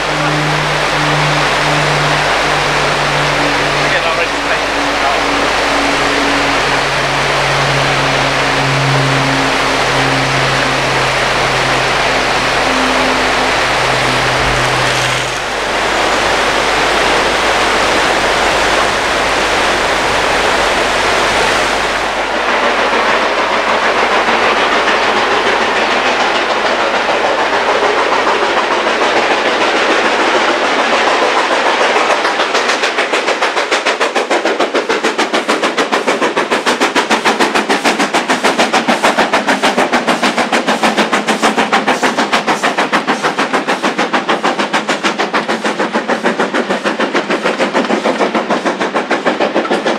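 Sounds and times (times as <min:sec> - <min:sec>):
locomotive chuffing: 0:00.0 - 0:49.9
steam train rushing past: 0:00.0 - 0:49.9.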